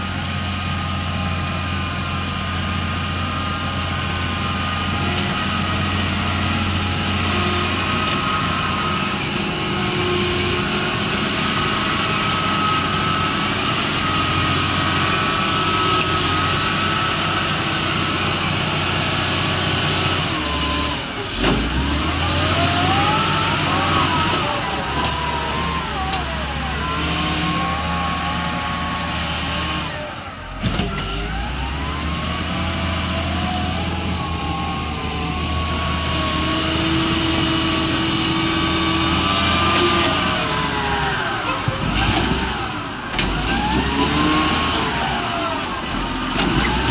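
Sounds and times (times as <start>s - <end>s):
excavator engine running: 0.0s - 46.9s.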